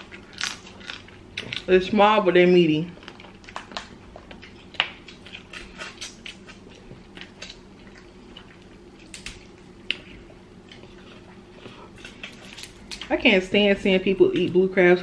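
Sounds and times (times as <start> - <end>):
wet chewing: 0.0 - 13.2.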